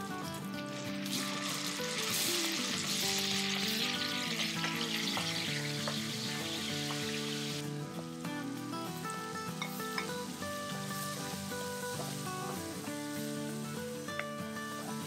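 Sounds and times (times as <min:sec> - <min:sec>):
meat frying in hot oil: 0:00.6 - 0:15.0.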